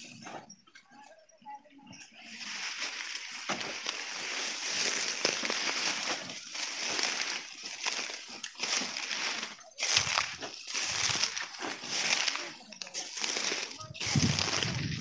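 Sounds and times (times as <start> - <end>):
dry sugarcane rustling and crackling: 1.9 - 15.0.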